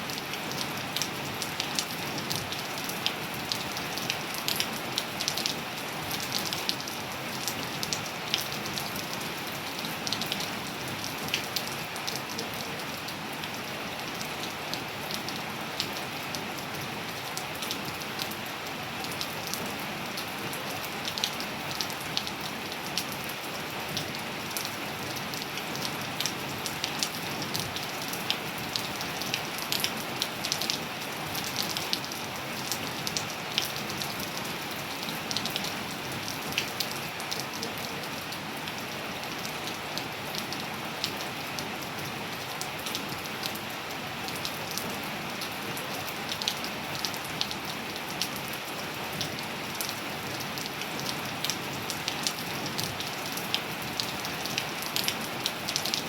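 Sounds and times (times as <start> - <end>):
rain pattering: 0.1 - 56.0.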